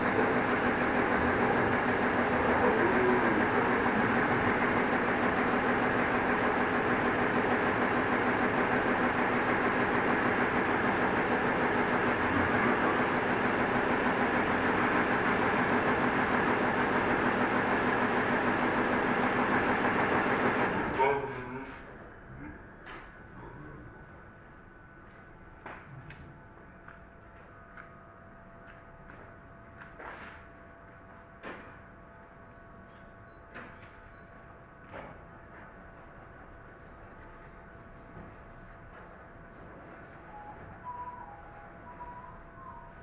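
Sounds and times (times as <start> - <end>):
machine droning: 0.0 - 43.0.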